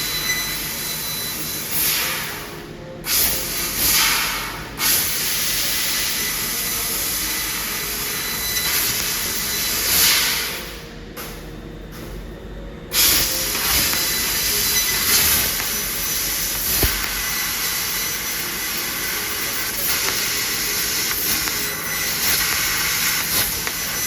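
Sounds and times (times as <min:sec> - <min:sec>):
laser cutter gas hissing: 0:00.0 - 0:24.0.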